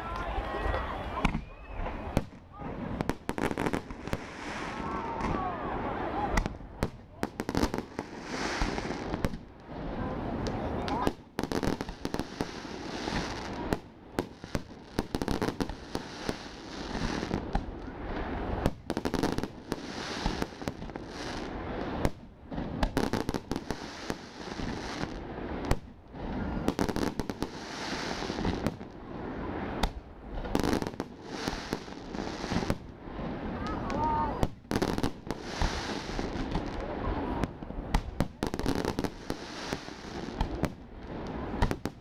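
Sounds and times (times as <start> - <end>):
fireworks bursting with bangs: 0.0 - 42.0
fireworks crackling: 0.0 - 42.0.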